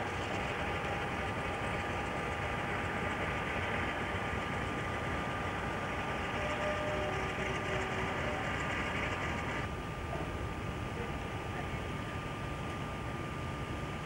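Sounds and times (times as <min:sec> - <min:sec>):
diesel locomotive engines idling: 0:00.0 - 0:14.0.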